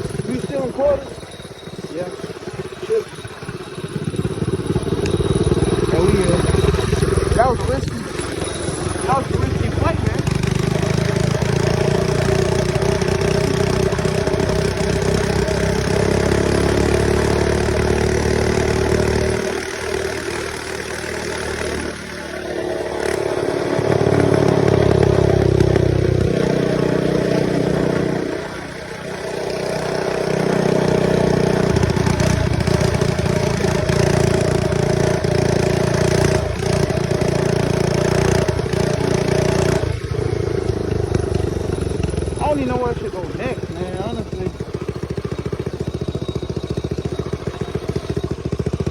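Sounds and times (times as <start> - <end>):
mini bike engine revving: 0.0 - 48.9.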